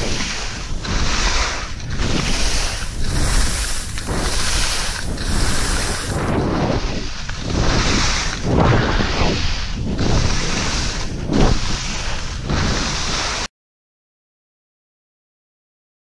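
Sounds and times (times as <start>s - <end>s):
wind buffeting microphone: 0.0s - 13.4s
skis sliding over snow: 0.0s - 13.5s.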